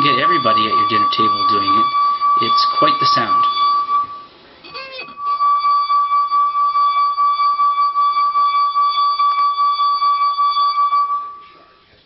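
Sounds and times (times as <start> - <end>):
wine glass ringing tone: 0.0 - 11.8.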